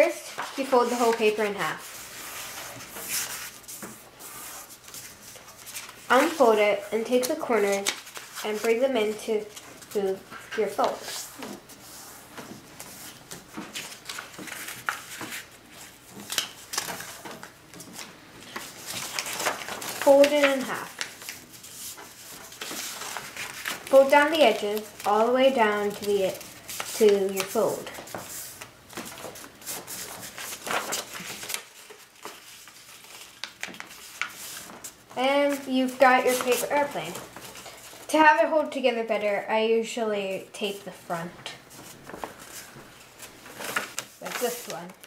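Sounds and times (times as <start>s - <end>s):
paper rustling and crackling: 0.3s - 38.2s, 41.5s - 45.0s.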